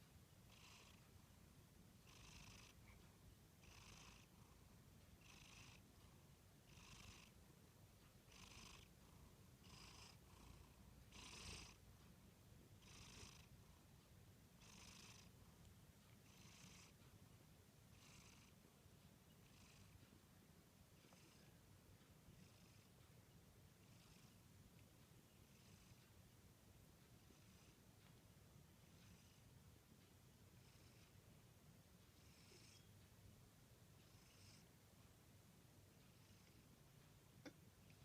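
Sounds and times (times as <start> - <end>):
cat snoring faintly: 0.0 - 33.1, 33.8 - 35.1, 35.8 - 38.0.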